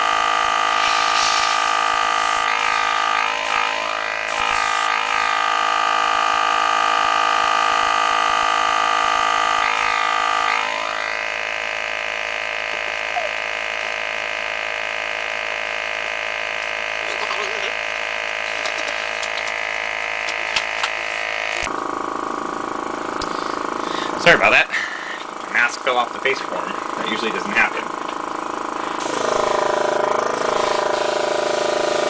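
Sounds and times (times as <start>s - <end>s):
compressor motor whining: 0.0s - 32.0s.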